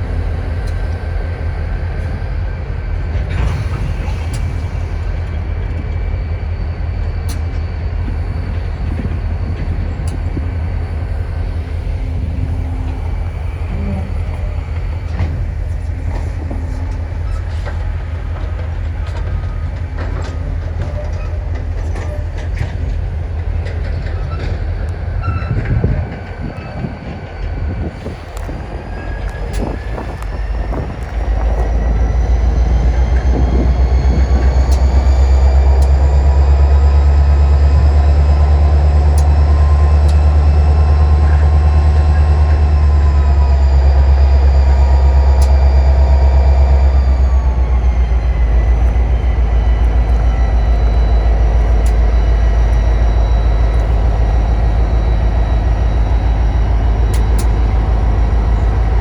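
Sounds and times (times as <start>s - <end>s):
train engine drone: 0.0s - 59.0s
whining tones: 0.0s - 59.0s.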